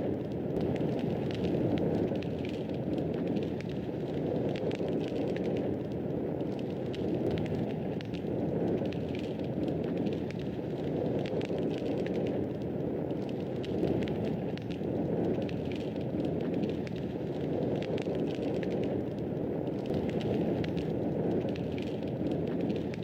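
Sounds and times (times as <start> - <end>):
fire crackles and pops: 0.0 - 23.0
fireplace fire rushing: 0.0 - 23.0.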